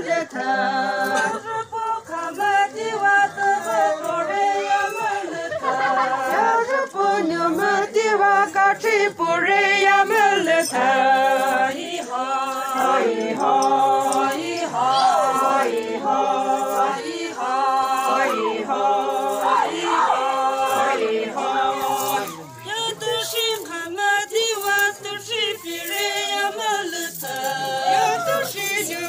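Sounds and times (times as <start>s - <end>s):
women singing unaccompanied: 0.0s - 29.0s.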